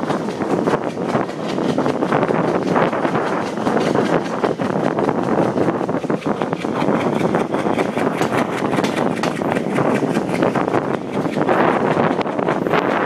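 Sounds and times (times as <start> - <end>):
train wheels clattering on track: 0.0 - 13.0
wind rushing over microphone: 0.0 - 13.0.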